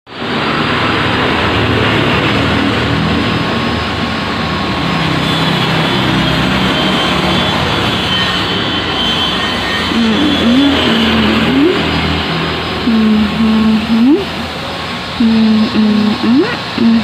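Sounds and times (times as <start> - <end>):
mechanical hum: 0.1 - 17.0.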